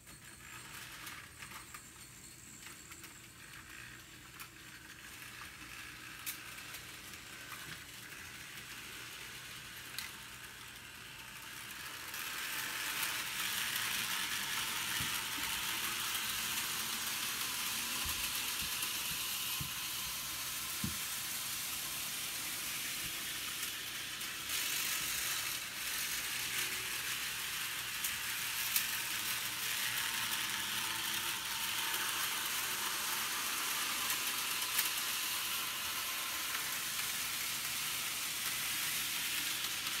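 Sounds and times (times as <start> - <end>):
model train whirring on rails: 0.0 - 40.0.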